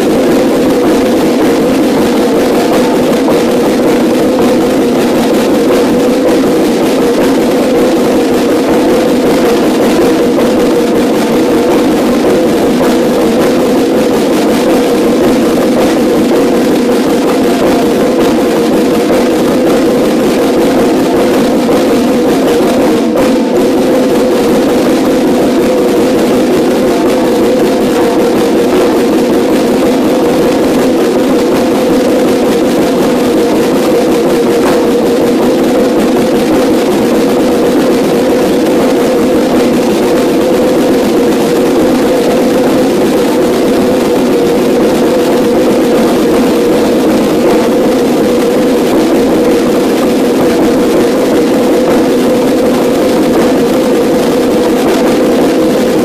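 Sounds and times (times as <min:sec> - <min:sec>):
marching snare drums: 0:00.0 - 0:56.0.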